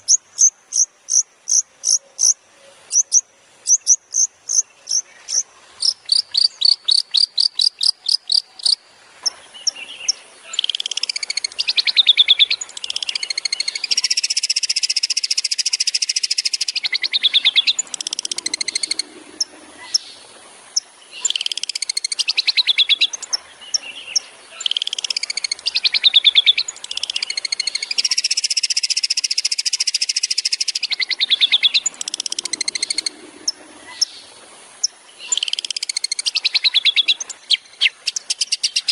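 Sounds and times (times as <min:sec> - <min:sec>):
bird singing with rattling trills: 0:00.0 - 0:34.2, 0:34.8 - 0:38.9.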